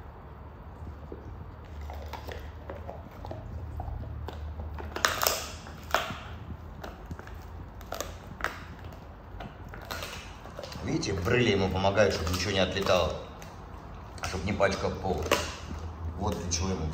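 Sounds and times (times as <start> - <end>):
dog chewing and crunching food: 0.6 - 16.9.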